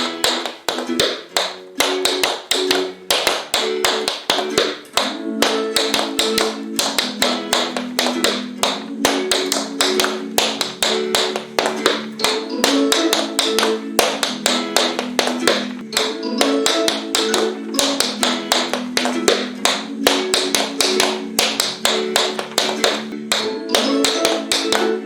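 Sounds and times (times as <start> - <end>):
background music with plucked strings: 0.0 - 25.0
tap shoes on hard floor: 0.0 - 25.0.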